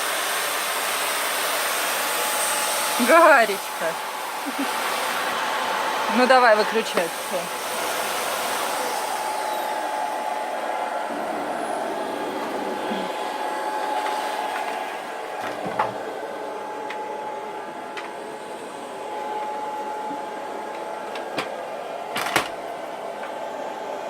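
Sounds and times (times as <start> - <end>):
vacuum cleaner motor whining: 0.0 - 24.0.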